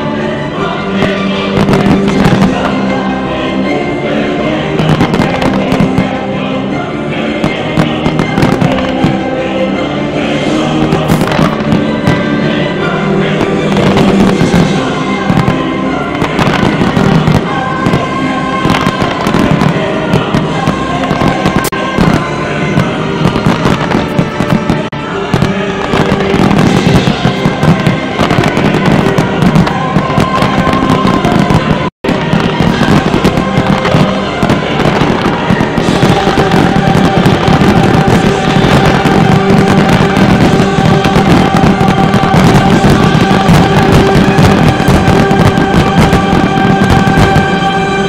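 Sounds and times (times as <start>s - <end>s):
loud orchestral music: 0.0s - 48.0s
fireworks bursting and crackling: 0.7s - 48.0s.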